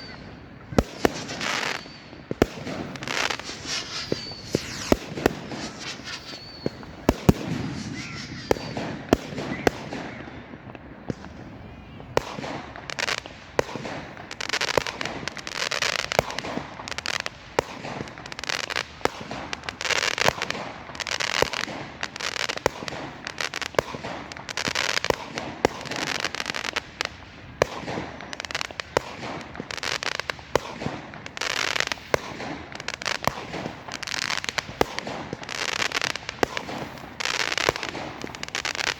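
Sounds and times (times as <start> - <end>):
crackling firework bursts: 0.0 - 38.9
fireworks bangs: 0.0 - 38.9.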